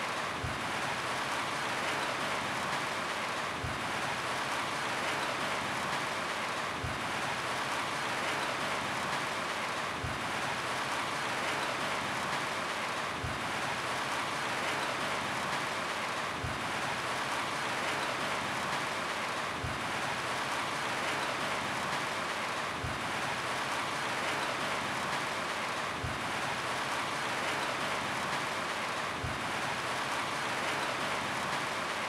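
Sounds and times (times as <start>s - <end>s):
rain falling on a roof: 0.0s - 32.0s.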